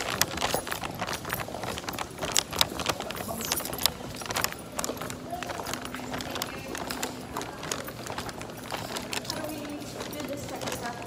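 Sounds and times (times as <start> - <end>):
footsteps on hard floor: 0.0 - 11.0.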